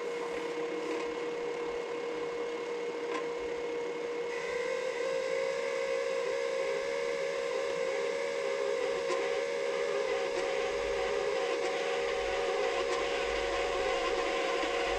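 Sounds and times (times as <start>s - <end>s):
wire-feed motor whine: 0.0s - 14.9s.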